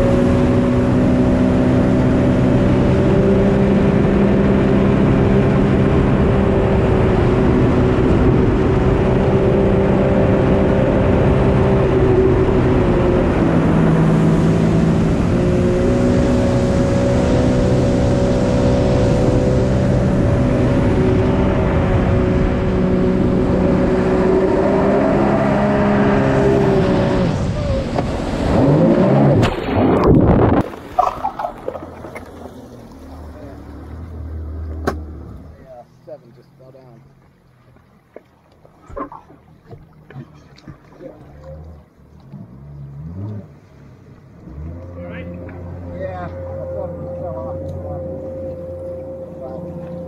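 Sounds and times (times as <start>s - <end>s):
jet ski engine running: 0.0s - 50.0s.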